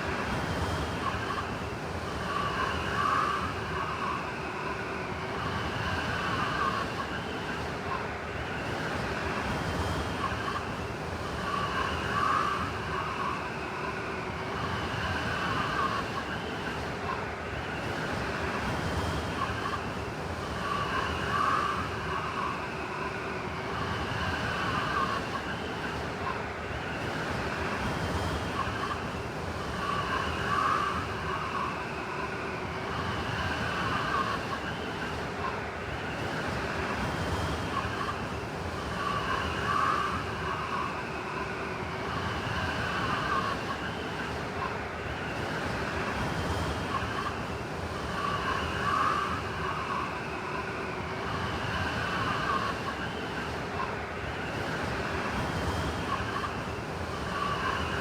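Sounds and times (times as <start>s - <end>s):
blizzard wind howling: 0.0s - 58.0s
high whistling wind gusts: 0.0s - 58.0s.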